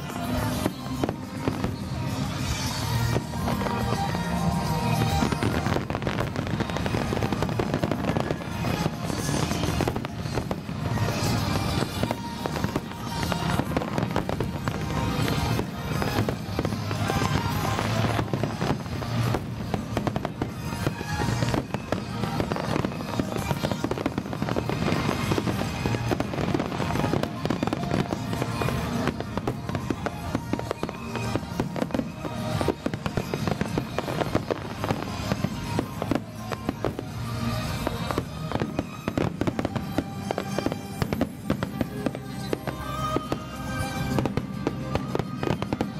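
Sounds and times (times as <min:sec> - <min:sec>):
fireworks bursting and crackling: 0:00.0 - 0:45.9
music playing: 0:00.0 - 0:45.9.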